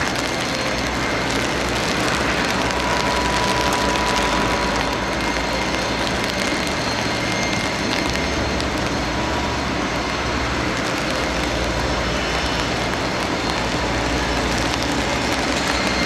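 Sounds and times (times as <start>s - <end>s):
jet aircraft engine noise: 0.0s - 16.0s.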